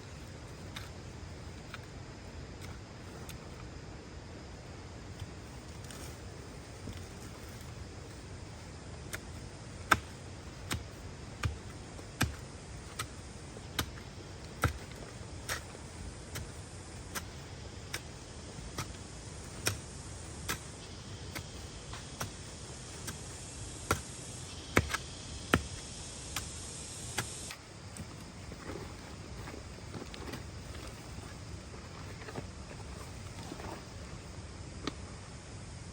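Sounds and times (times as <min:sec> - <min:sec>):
faint hiss: 0:01.7 - 0:31.8.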